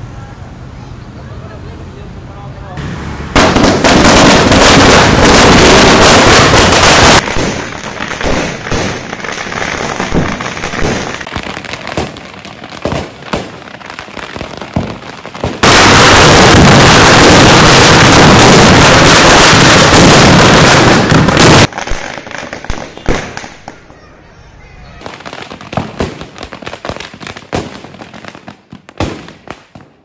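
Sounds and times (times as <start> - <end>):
firecracker bangs and pops: 2.8 - 23.8, 25.0 - 30.0
firecrackers crackling barrage: 2.8 - 24.0, 24.9 - 30.0.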